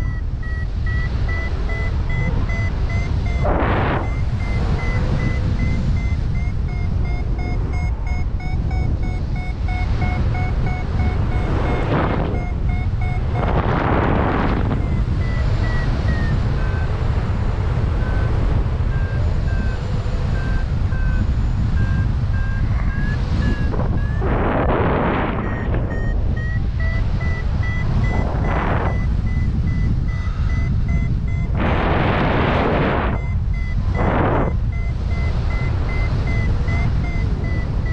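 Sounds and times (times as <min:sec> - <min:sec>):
variometer beeping: 0:00.0 - 0:37.9
wind buffeting microphone: 0:00.0 - 0:37.9.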